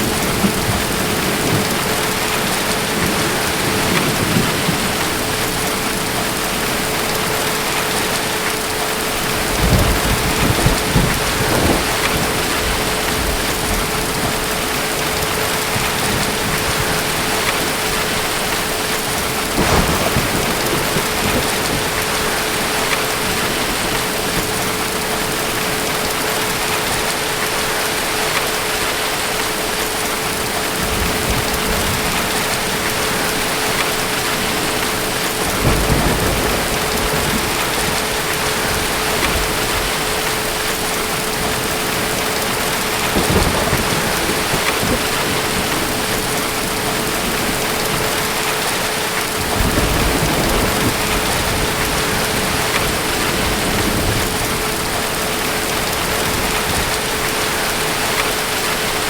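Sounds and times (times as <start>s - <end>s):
distant thunder rumbling: 0.0s - 8.4s, 9.0s - 27.0s, 30.7s - 59.0s
steady rain: 0.0s - 59.0s.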